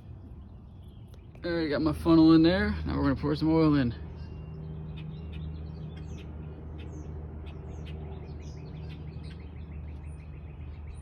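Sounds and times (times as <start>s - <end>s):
small birds chirping and trilling: 0.0s - 11.0s.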